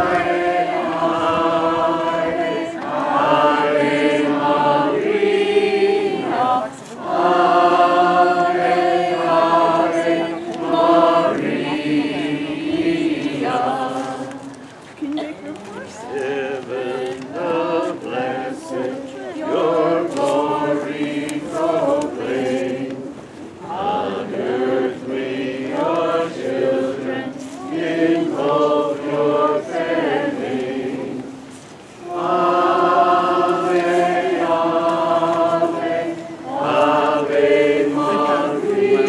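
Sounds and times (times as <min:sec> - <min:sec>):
group singing a hymn: 0:00.0 - 0:39.0.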